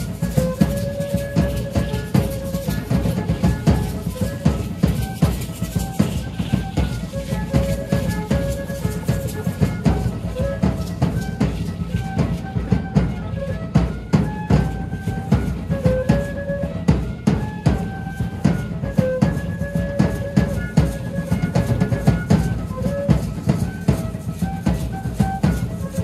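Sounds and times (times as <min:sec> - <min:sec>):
driving drum beat: 0:00.0 - 0:26.0.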